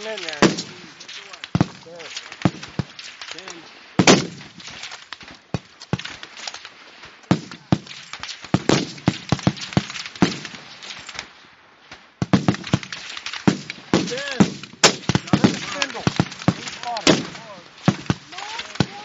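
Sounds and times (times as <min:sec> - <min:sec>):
rifle shots: 0:00.0 - 0:11.3, 0:12.2 - 0:19.0.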